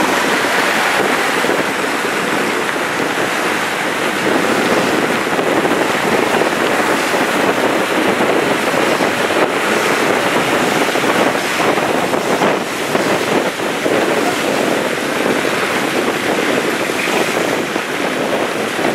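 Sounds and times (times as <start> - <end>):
cars driving through water: 0.0 - 18.9
rushing floodwater: 0.0 - 18.9.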